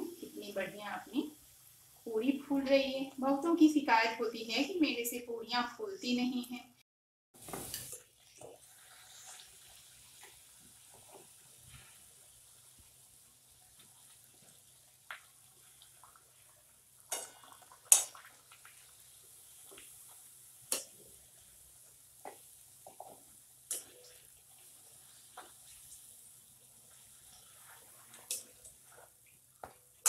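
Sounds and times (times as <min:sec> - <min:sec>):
oil sizzling: 0:00.0 - 0:04.8, 0:07.4 - 0:30.0.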